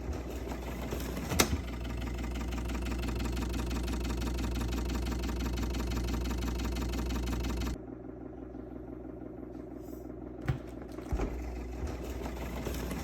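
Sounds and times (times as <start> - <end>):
refrigerator humming and pulsing: 0.0 - 13.0.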